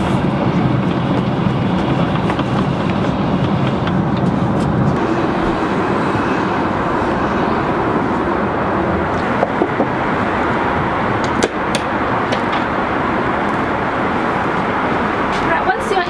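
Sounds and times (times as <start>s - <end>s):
airliner cabin engine hum: 0.0s - 16.0s.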